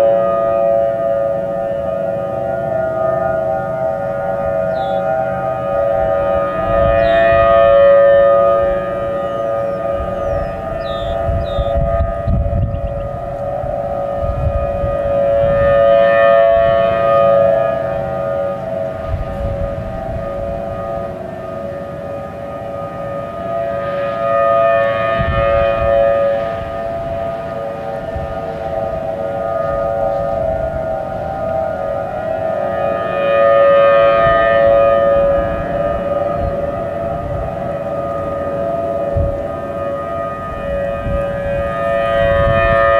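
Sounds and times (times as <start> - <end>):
distant mechanical sirens: 0.0 - 42.9
electronic siren steady alert tone: 0.0 - 42.9.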